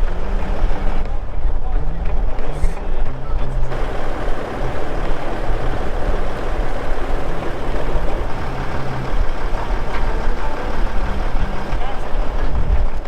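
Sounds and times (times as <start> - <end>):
vehicle engine running: 0.0 - 13.0
wind noise on microphone: 0.0 - 13.0.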